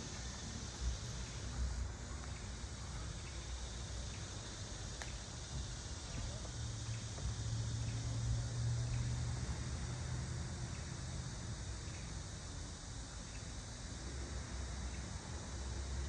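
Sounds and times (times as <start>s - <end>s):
even hiss: 0.0s - 16.0s
steady low hum: 0.0s - 16.0s.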